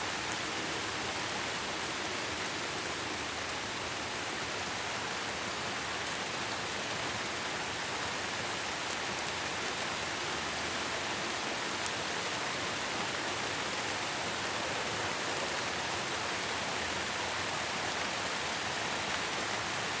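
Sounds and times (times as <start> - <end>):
steady rainfall hiss: 0.0 - 20.0.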